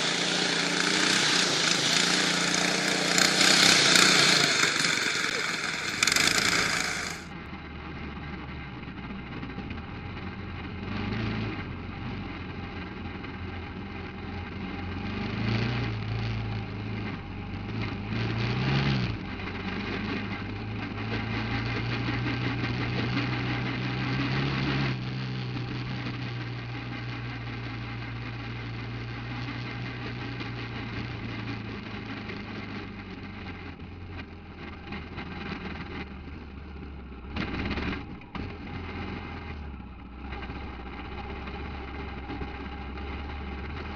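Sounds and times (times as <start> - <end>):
buggy engine revving: 0.0 - 7.5, 8.2 - 43.9.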